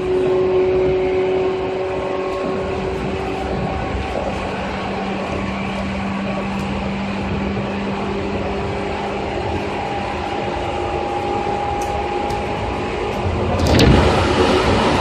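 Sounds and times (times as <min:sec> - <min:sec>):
electric train rumbling on rails: 0:00.0 - 0:15.0
high steady whine: 0:00.0 - 0:15.0.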